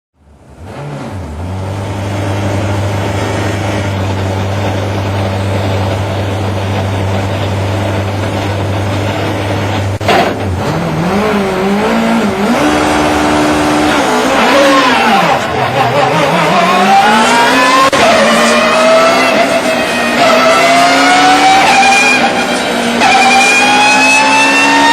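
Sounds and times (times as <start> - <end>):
car engine idling and revving: 0.2 - 24.9.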